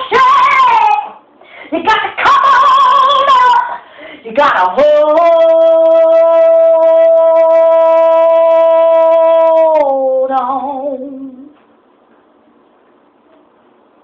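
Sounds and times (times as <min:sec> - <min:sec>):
woman singing unaccompanied: 0:00.0 - 0:11.6.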